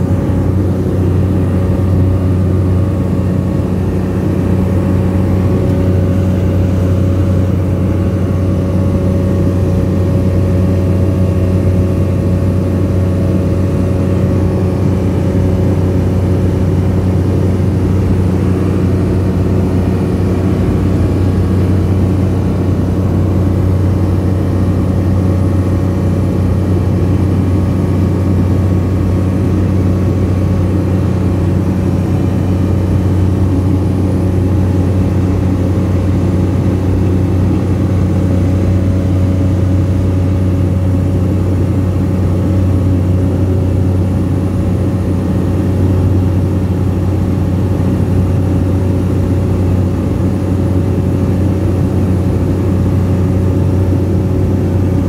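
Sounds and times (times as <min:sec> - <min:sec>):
aircraft engine drone in cabin: 0:00.0 - 0:55.0.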